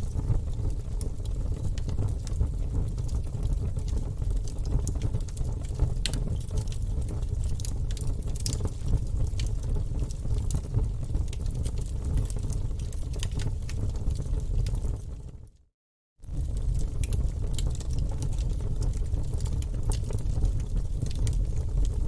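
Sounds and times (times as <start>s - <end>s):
logs crackling and popping: 0.0s - 15.2s, 16.2s - 22.0s
fire rumbling: 0.0s - 15.6s, 16.2s - 22.0s.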